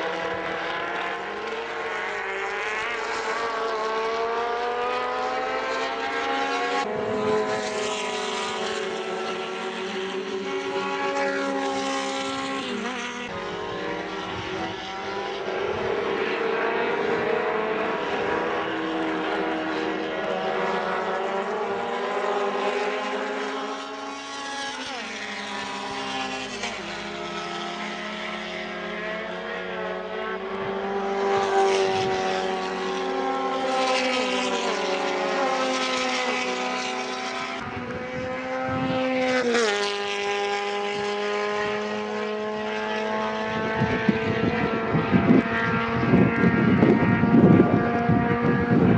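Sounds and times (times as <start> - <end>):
race car engines passing: 0.0 - 48.9.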